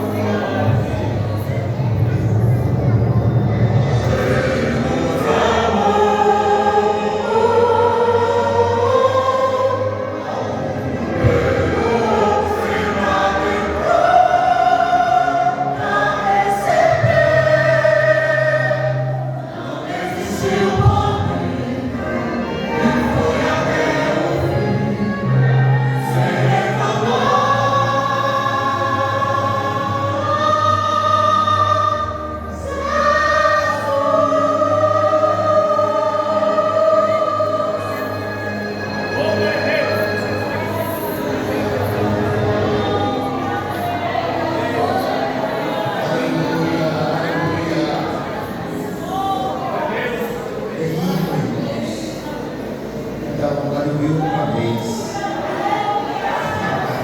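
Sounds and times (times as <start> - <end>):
group singing in harmony: 0.0 - 57.0.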